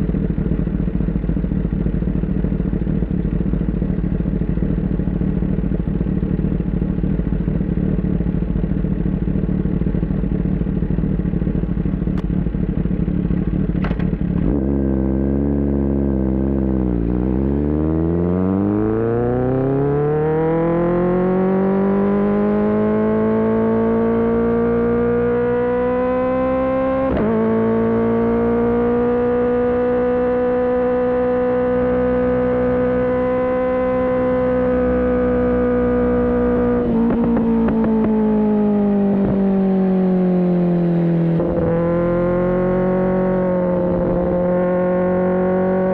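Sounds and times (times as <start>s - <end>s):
motorcycle engine: 0.0s - 45.9s.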